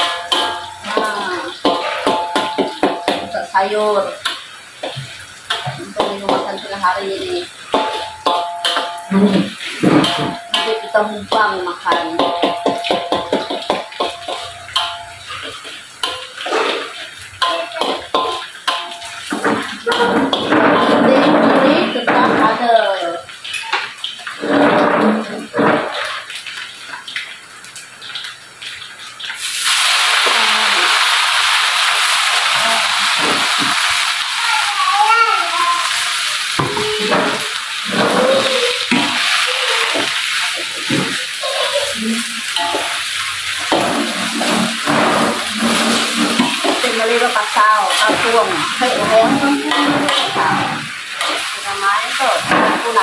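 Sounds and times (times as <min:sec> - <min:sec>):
spatula stirring in a wok: 0:00.0 - 0:27.0, 0:35.8 - 0:53.0
loud sizzle in a wok: 0:00.0 - 0:53.0.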